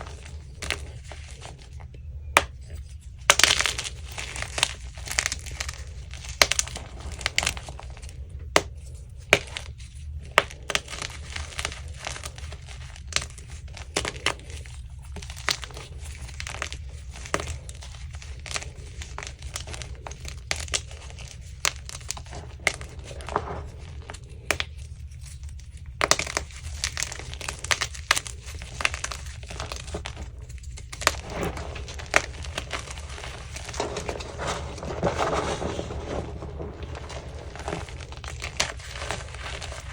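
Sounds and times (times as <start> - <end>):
chalk crushed by hand: 0.0 - 39.9
steady low hum: 0.0 - 39.9.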